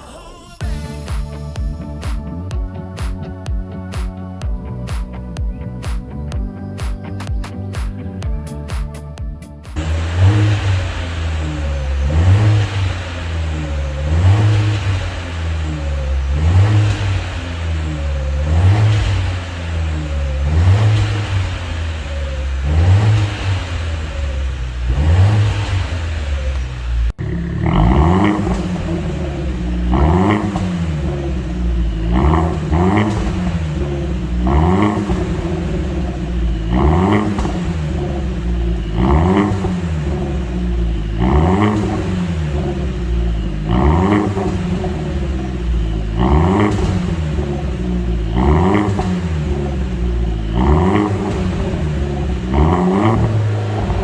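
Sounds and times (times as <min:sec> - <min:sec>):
exhaust crackling: 0:00.0 - 0:54.0
car engine revving: 0:09.7 - 0:54.0.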